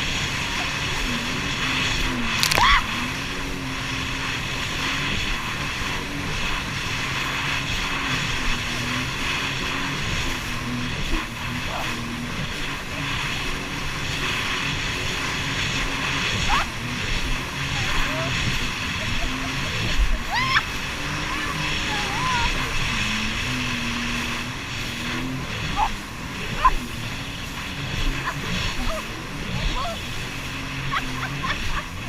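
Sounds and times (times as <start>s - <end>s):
jet ski engine running: 0.0s - 32.0s.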